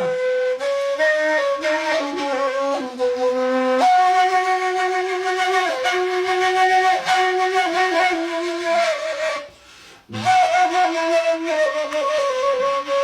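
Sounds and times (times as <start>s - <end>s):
reed flute melody: 0.0s - 13.0s.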